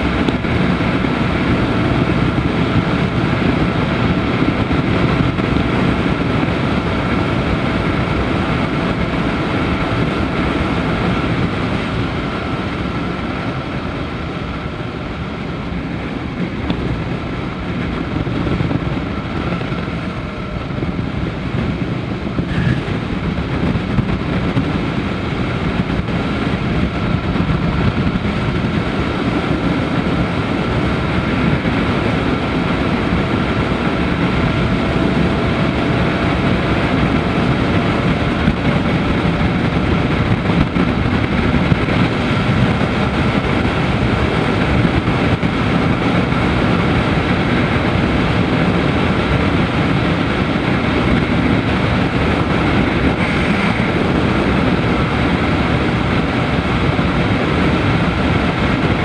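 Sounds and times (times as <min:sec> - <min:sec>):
motorcycle engine running: 0:00.0 - 0:59.0
wind rush over microphone: 0:00.0 - 0:59.0.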